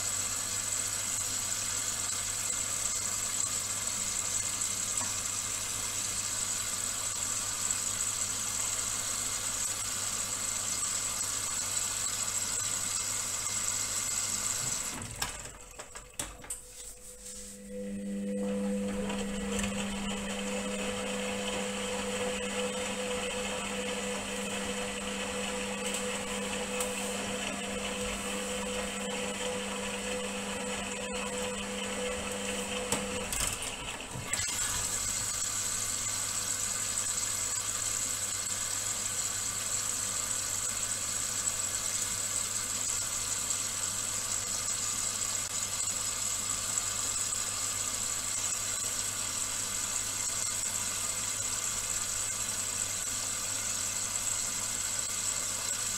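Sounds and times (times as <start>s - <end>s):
washing machine motor whine: 0.0s - 55.9s.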